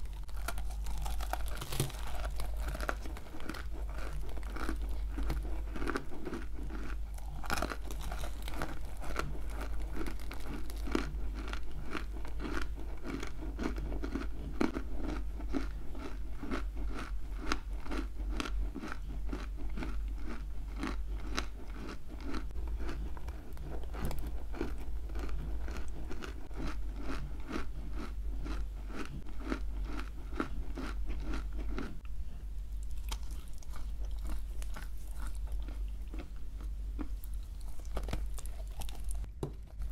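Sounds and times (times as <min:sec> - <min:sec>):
crunching and chewing clay: 0:00.0 - 0:32.1, 0:32.8 - 0:39.9.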